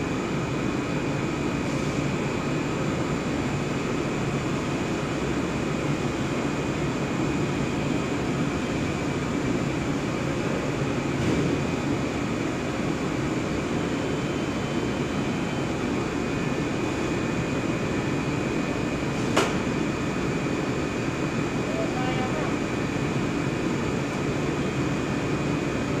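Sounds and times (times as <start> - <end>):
machine drone with high whine: 0.0 - 26.0.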